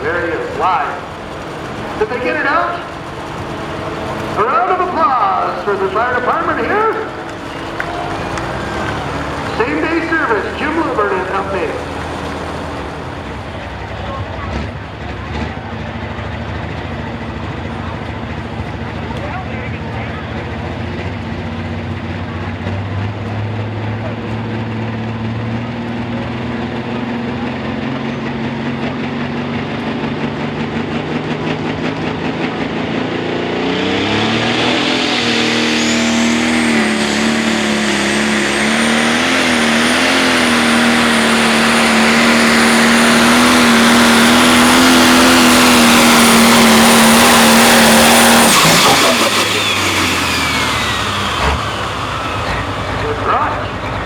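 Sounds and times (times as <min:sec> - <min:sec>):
diesel tractor engine revving: 0:00.0 - 0:54.0.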